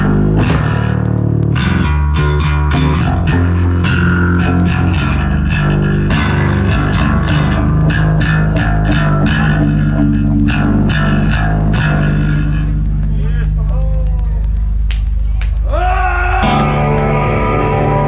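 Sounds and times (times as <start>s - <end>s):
bass guitar: 0.0s - 18.0s
electric guitar: 0.0s - 18.0s.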